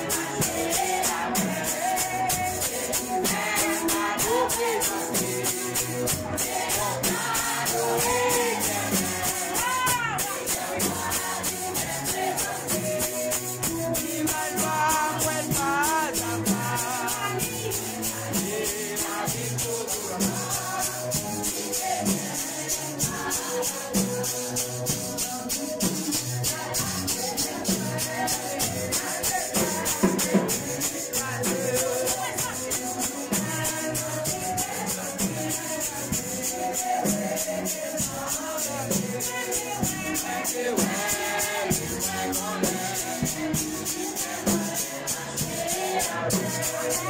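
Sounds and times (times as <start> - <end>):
drums: 0.0 - 47.0
metal shaker rattling: 0.0 - 47.0
voices singing through microphones: 0.0 - 47.0.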